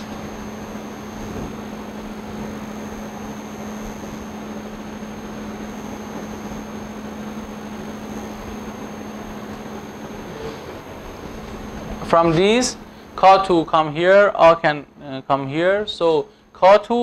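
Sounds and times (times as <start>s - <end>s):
low steady hum: 0.0s - 17.0s
thin high whine: 0.0s - 17.0s.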